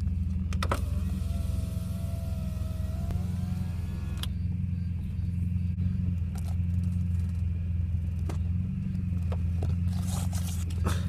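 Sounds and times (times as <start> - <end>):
car engine low hum: 0.0 - 11.0.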